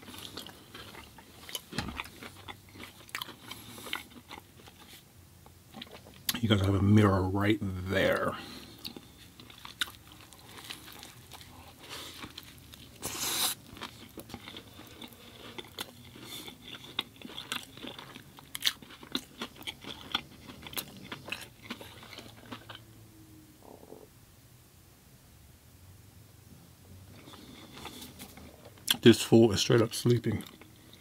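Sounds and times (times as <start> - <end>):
person chewing and crunching food: 0.0 - 6.8, 7.4 - 23.0, 27.0 - 31.0.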